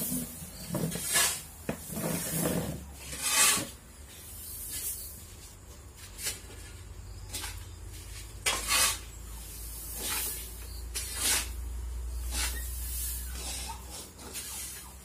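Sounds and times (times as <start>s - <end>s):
shovel scraping through grain: 0.0s - 15.0s.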